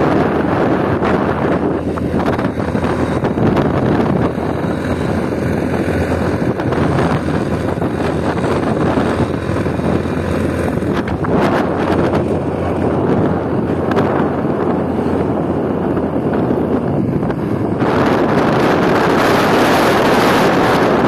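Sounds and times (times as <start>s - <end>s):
motorcycle engine humming: 0.0s - 21.0s
wind buffeting microphone: 0.0s - 21.0s.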